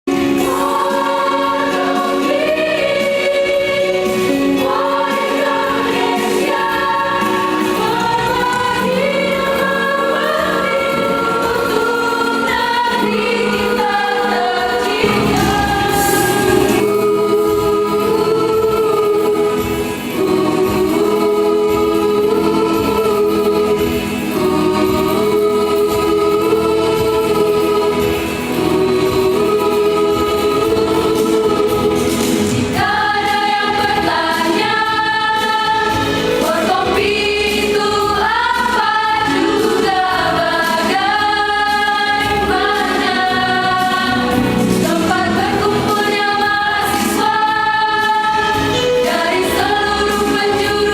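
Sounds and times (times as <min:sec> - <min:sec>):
choir singing: 0:00.1 - 0:50.9.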